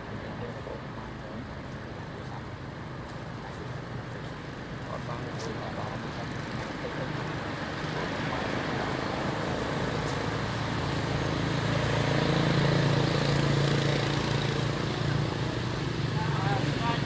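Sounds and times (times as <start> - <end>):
vehicle engine humming: 1.7 - 17.0.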